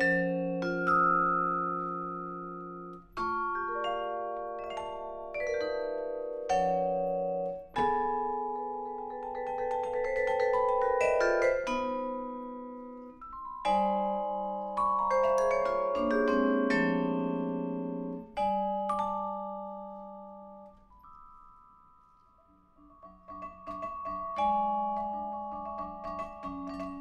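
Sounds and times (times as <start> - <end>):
vibraphone played with mallets: 0.0 - 27.0.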